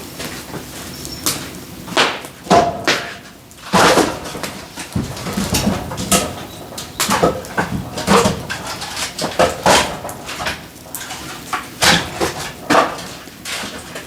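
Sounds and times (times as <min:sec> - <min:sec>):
firewood logs knocking together: 0:02.0 - 0:14.0.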